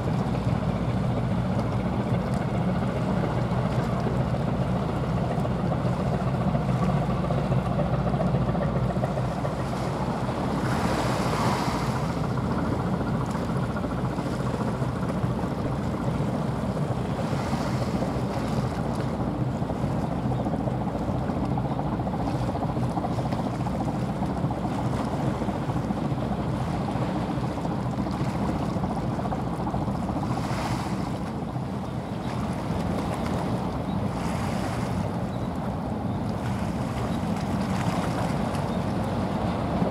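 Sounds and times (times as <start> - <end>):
ship engine drone: 0.0 - 39.9
water rushing from bow wave: 0.0 - 39.9.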